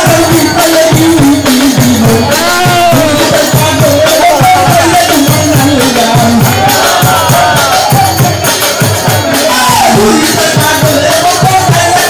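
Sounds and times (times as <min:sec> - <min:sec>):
person singing devotional song: 0:00.0 - 0:12.0
steady drum beat: 0:00.0 - 0:12.0.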